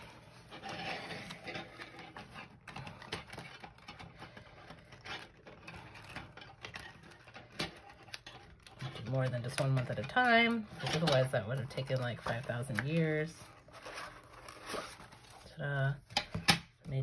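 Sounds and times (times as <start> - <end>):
paper rustling on spiral binding: 0.0 - 15.9.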